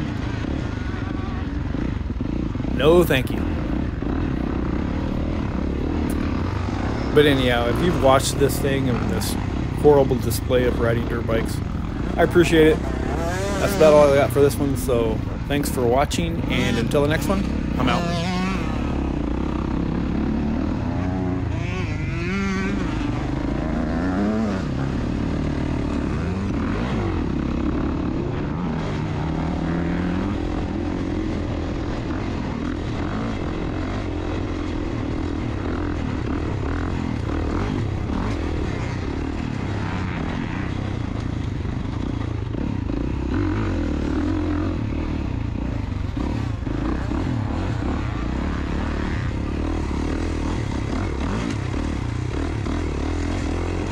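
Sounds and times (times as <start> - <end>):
two-stroke dirt bike engine: 0.0 - 53.9.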